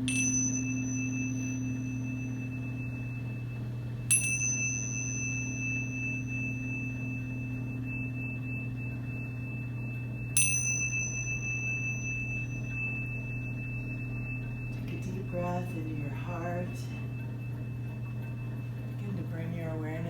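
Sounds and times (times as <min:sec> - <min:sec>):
low hum: 0:00.0 - 0:20.0
small bell ringing: 0:00.0 - 0:20.0.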